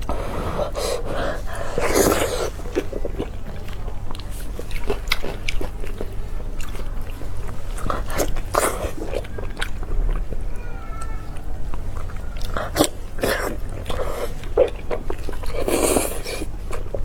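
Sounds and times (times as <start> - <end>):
person biting and chewing: 0.0 - 10.3, 12.0 - 17.0.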